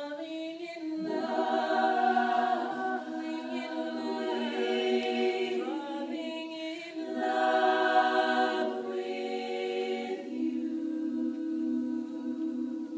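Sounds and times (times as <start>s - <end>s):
vocal group singing chords: 0.0s - 12.9s.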